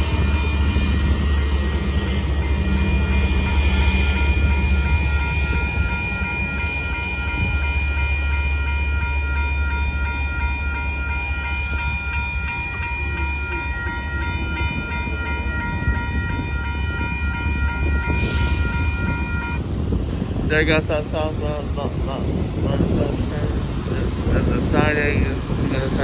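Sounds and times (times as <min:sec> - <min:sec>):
crossing warning bell dinging: 0:00.0 - 0:26.0
low rumble: 0:00.0 - 0:26.0.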